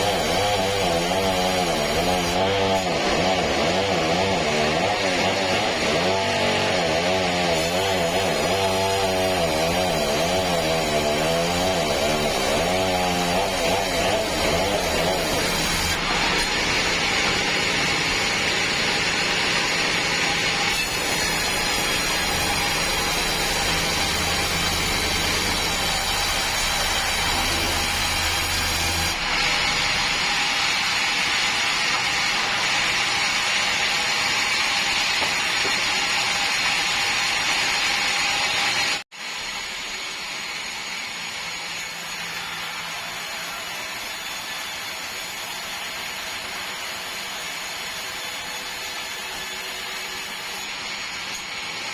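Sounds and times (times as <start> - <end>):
sawmill saw whining: 0.0 - 51.9.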